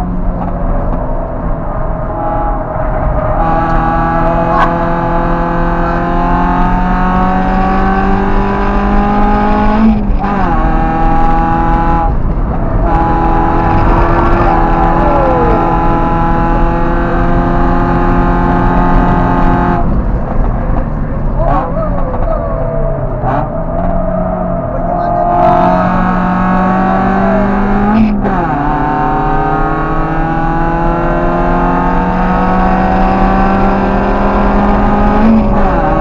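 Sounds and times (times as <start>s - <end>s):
car engine revving at full throttle: 0.0s - 36.0s.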